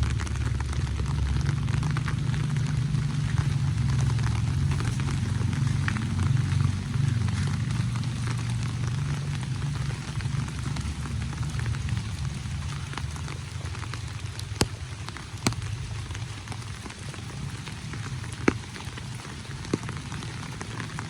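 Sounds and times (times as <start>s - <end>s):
low rumble: 0.0s - 20.6s
rain falling: 0.0s - 21.0s.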